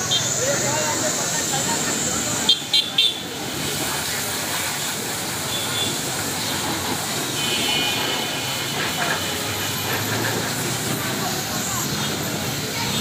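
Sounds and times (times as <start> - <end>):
voices in the background: 0.0 - 7.4, 8.0 - 13.0
hose spraying water: 0.0 - 13.0.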